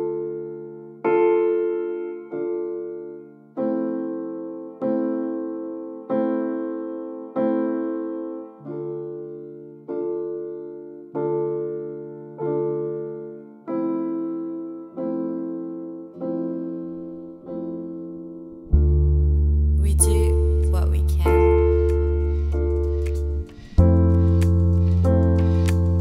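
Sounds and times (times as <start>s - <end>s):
keyboard playing slow chords: 0.0s - 26.0s.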